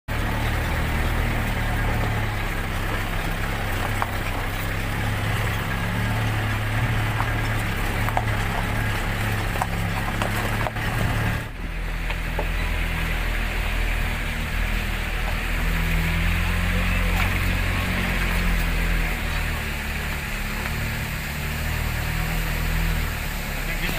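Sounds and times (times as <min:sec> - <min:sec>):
vehicle engine running: 0:00.0 - 0:23.9
tyres crunching over gravel: 0:00.1 - 0:23.9.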